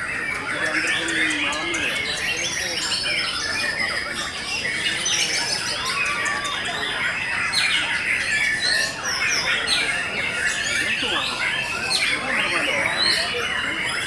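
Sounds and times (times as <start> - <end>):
many birds singing: 0.0 - 14.0.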